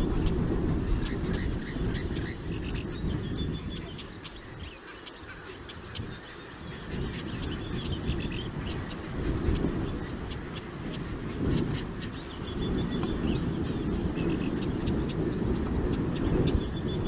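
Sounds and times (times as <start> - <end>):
low rumbling noise: 0.0 - 17.0
small birds chirping: 0.0 - 17.0.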